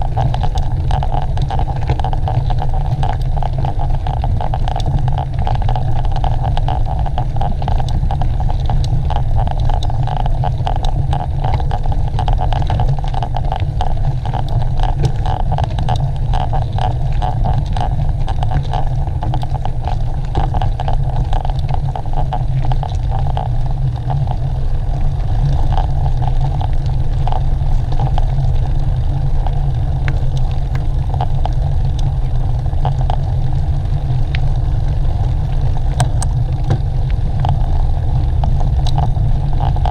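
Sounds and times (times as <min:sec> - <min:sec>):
small clicks and rattles: 0:00.0 - 0:39.9
wind rumble on microphone: 0:00.0 - 0:39.9.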